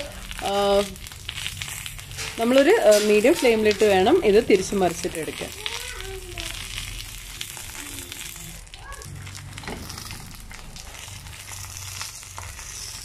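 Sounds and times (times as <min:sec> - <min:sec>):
fish sizzling on a hot pan: 0:00.0 - 0:13.0
oil popping and crackling: 0:00.0 - 0:13.0.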